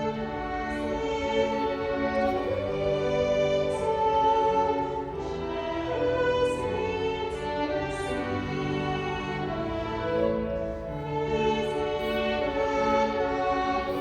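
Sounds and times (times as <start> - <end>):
piano: 0.0 - 14.0
violins: 0.0 - 14.0.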